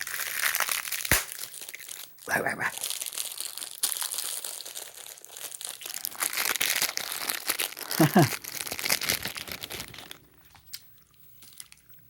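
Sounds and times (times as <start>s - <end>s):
candy packaging crinkling: 0.0s - 11.9s.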